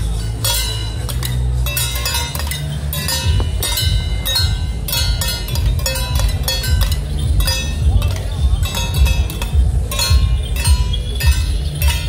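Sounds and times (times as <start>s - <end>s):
cymbals and small gongs ringing: 0.0s - 12.0s
drum rumbling: 0.0s - 12.0s.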